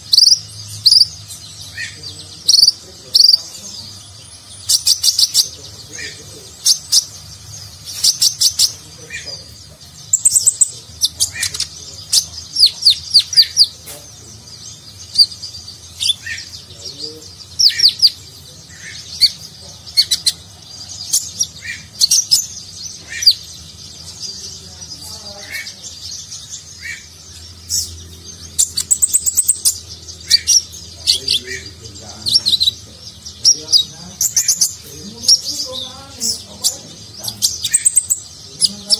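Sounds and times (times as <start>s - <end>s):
sunbird singing high trills: 0.0s - 38.9s.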